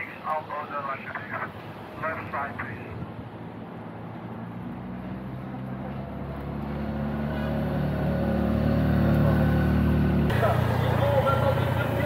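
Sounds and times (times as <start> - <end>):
car engines approaching: 0.0 - 12.0.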